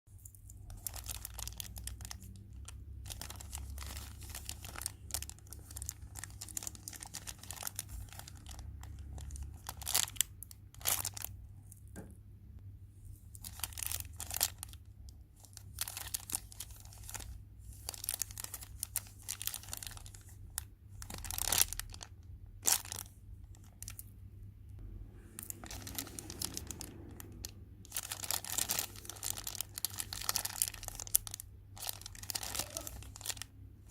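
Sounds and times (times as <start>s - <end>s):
plastic packaging crinkling: 0.1s - 11.4s, 13.3s - 24.1s, 25.3s - 33.9s.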